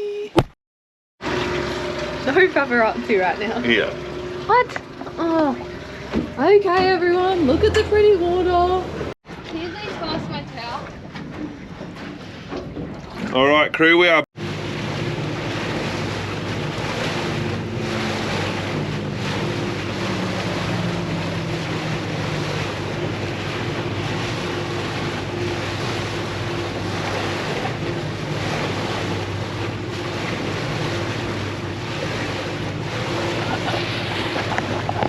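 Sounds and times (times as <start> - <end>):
boat engine humming: 1.2 - 35.0
water rushing past hull: 1.2 - 35.0.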